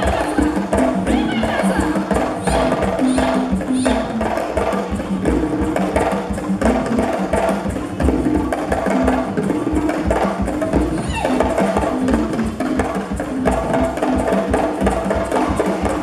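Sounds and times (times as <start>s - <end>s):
music with percussion: 0.0s - 16.0s.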